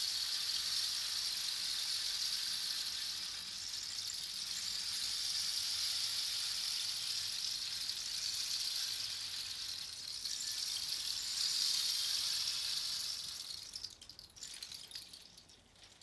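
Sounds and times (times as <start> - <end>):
rain stick beads trickling: 0.0 - 16.0.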